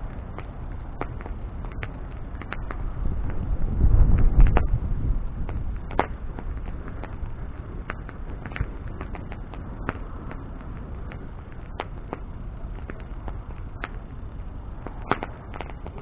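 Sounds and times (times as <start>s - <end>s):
burning wood popping and snapping: 0.0s - 16.0s
low rumble of fire: 0.0s - 16.0s.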